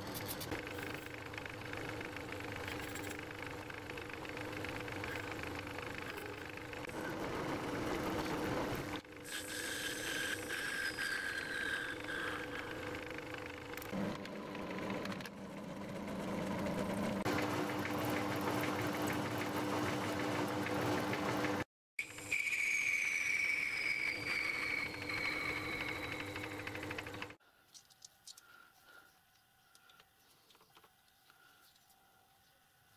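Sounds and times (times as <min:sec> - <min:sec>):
small lathe running: 0:00.1 - 0:27.4.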